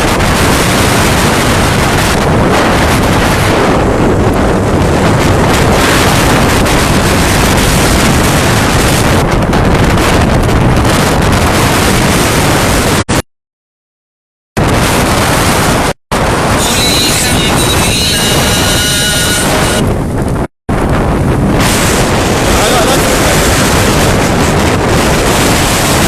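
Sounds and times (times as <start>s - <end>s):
strong wind on microphone: 0.0s - 13.2s, 14.6s - 26.0s
surf crashing: 0.0s - 13.2s, 14.6s - 26.0s.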